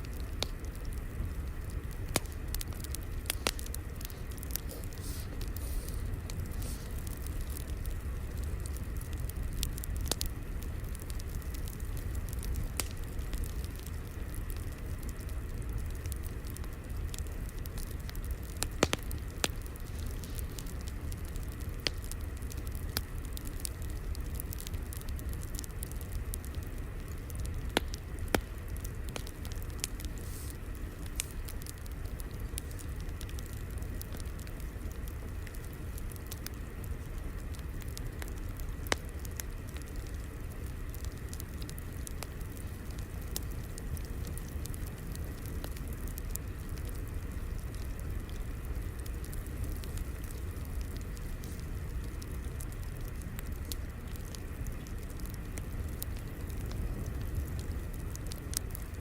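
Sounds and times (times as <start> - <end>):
fire crackling: 0.0 - 59.0
pops and snaps of fire: 0.0 - 59.0.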